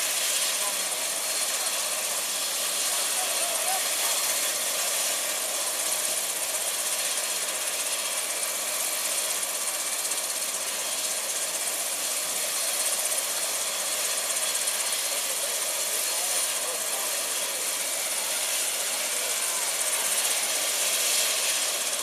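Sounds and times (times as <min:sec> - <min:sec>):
helicopter engine and rotors: 0:00.0 - 0:22.0.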